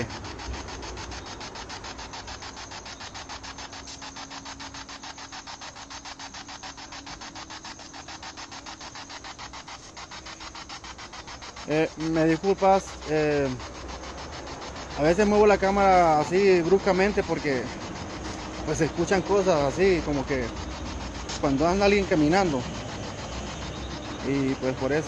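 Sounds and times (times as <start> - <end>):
pulsing radio static: 0.0 - 25.0.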